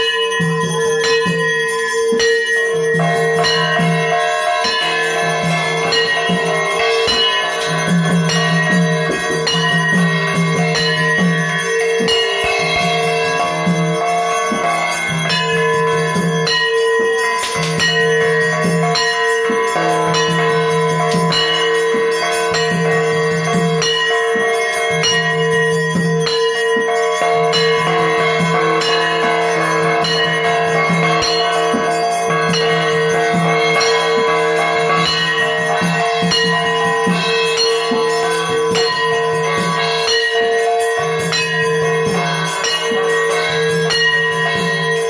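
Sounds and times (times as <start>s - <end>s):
hand bell ringing: 0.0s - 45.0s
music: 0.0s - 45.0s.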